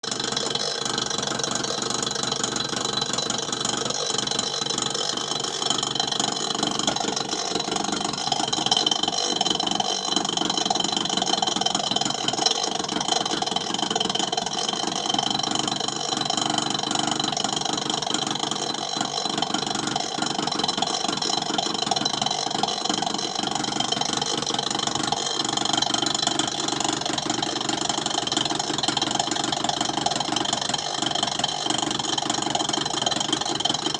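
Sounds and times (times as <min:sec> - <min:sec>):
rapid knocking rattle: 0:00.0 - 0:33.9.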